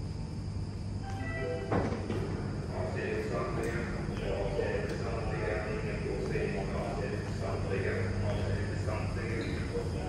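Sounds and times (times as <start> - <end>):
low train hum: 0.0 - 10.0.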